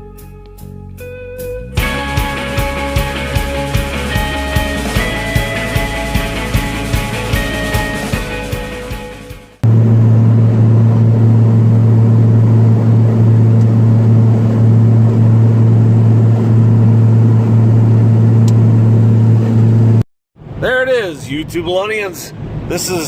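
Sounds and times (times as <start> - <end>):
car engine and road noise drone: 1.6 - 23.0.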